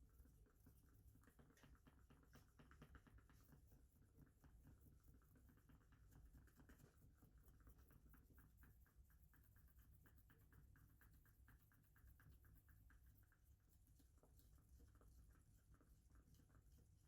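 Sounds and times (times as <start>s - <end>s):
faint low hum: 0.0s - 17.0s
rapid scratching ticks: 0.0s - 17.0s.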